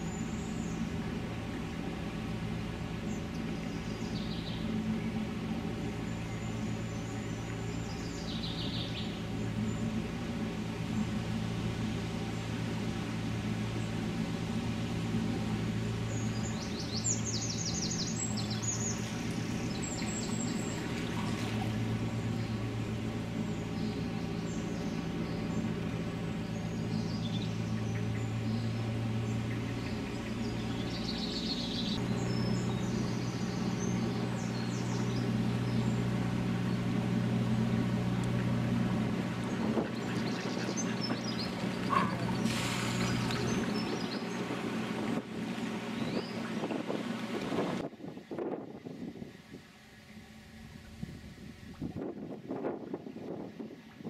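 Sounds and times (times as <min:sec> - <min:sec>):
diesel engine running: 0:00.0 - 0:47.9, 0:49.0 - 0:52.3
birds chirping: 0:00.0 - 0:52.0.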